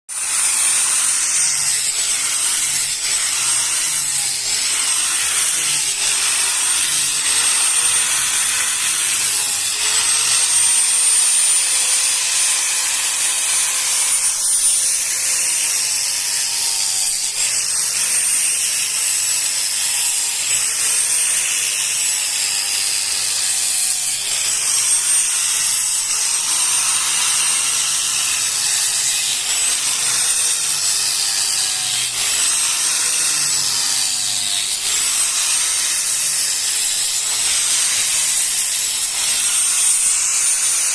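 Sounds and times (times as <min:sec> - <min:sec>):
power tool cutting wood: 0:00.1 - 0:40.9.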